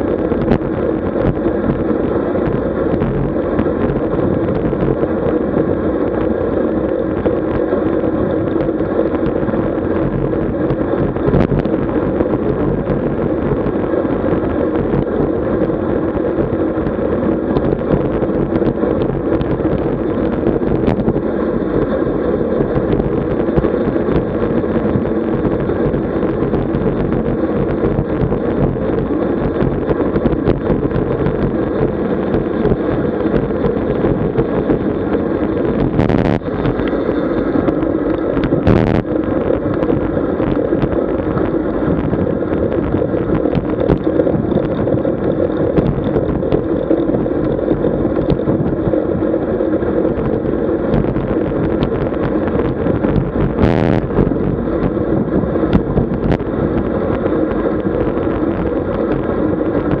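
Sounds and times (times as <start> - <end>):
road noise: 0.0 - 60.0
rushing wind: 0.0 - 60.0.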